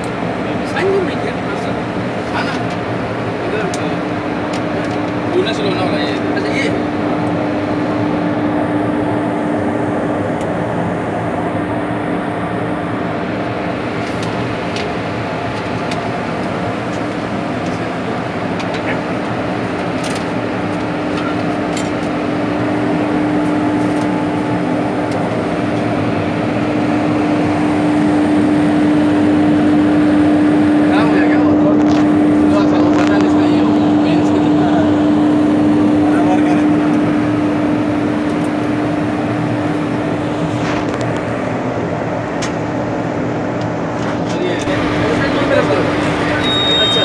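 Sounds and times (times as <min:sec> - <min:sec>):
electric locomotive machinery hum: 0:00.0 - 0:47.0.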